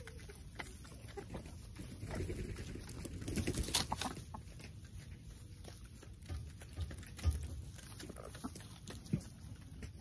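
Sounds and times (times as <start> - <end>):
chickens pecking: 0.0 - 10.0.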